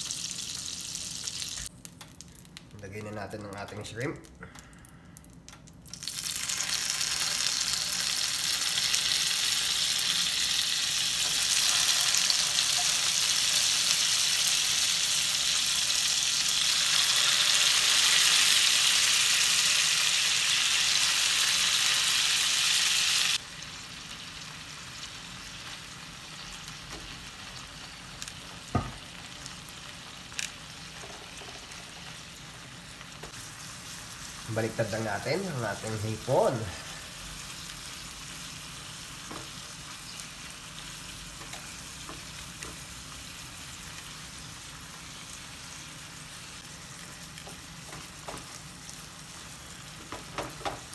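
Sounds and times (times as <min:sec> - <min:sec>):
shrimp sizzling in a pan: 0:00.0 - 0:01.7, 0:05.9 - 0:50.9.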